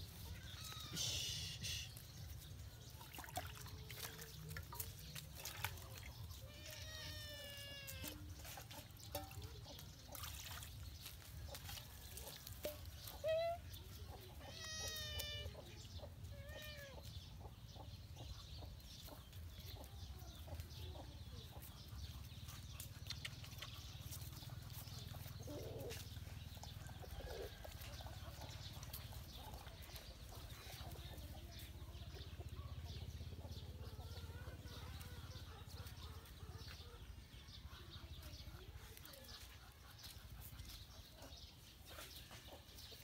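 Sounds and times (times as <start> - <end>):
chickens clucking: 0.0 - 2.9, 3.7 - 43.0.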